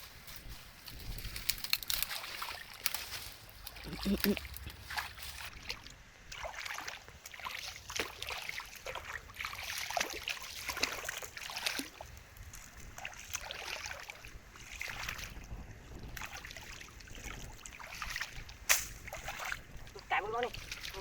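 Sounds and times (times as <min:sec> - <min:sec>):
shallow water splashing: 0:01.3 - 0:21.0.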